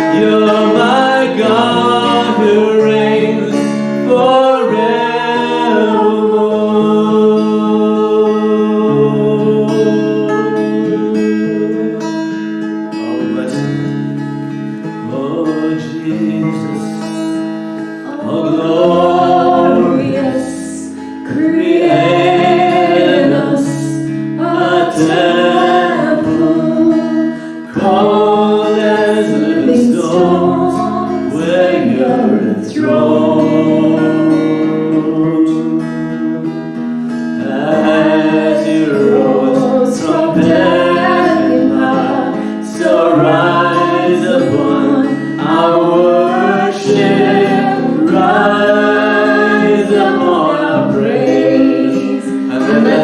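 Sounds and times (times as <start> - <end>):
guitar accompaniment: 0.0 - 53.0
voices singing worship music: 0.0 - 53.0.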